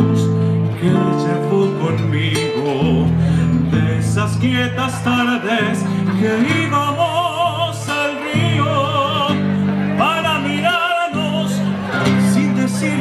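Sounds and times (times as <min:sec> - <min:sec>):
classical guitar: 0:00.0 - 0:13.0
man singing operatically: 0:00.0 - 0:13.0.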